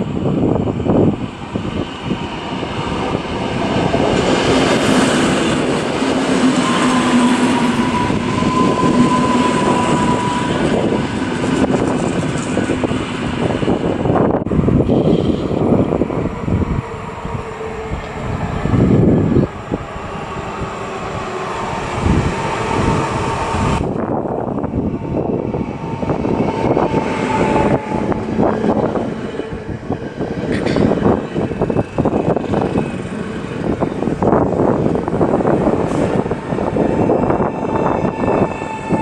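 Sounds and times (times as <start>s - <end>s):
electric train passing close: 0.0s - 39.0s
faint train whine: 0.0s - 39.0s
freight train rail rumble: 0.0s - 39.0s.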